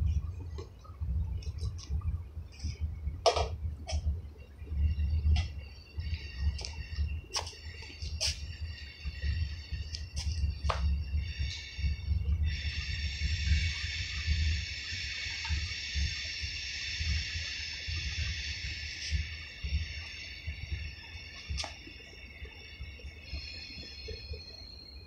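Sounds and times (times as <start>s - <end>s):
steady high buzz: 0.0s - 25.0s
wind rumbling on microphone: 0.0s - 25.0s.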